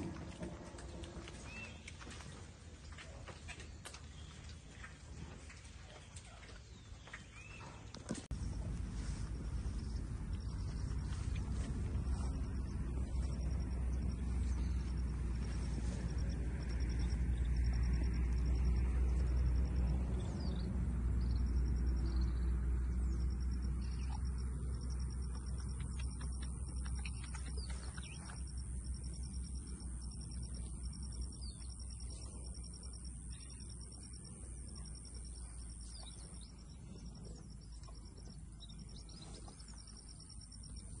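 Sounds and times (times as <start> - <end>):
birds chirping: 3.1 - 19.4, 20.1 - 41.0
steady low rumble: 8.1 - 41.0.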